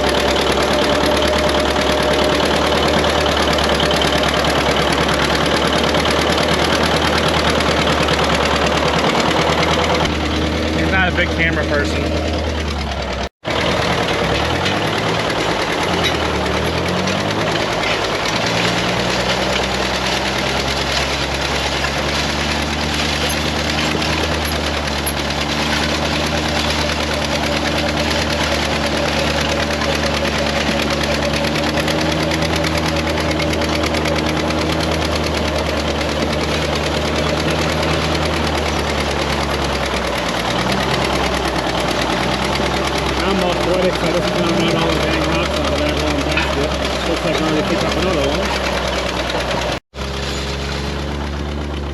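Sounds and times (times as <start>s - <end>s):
tractor engine running under load: 0.0s - 51.9s.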